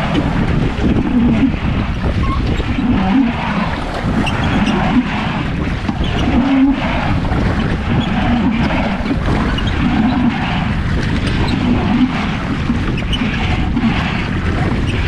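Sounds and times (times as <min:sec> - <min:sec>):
waves washing against boat: 0:00.0 - 0:15.0
wind buffeting microphone: 0:00.0 - 0:15.0.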